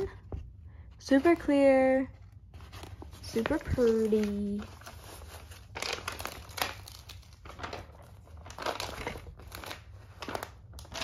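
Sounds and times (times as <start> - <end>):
paper and plastic crinkling: 1.0 - 11.0.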